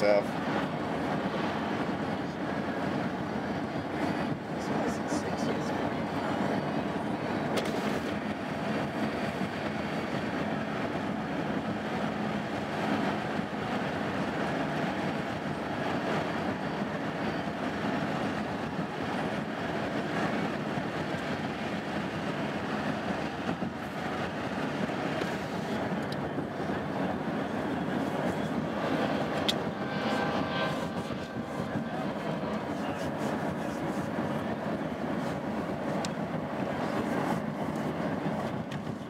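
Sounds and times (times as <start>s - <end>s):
car road noise: 0.0s - 39.0s
freight train wheels rumbling: 0.0s - 39.0s.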